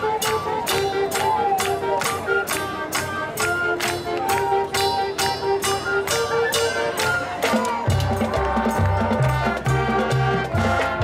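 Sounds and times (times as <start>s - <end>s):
marching band playing: 0.0s - 11.0s.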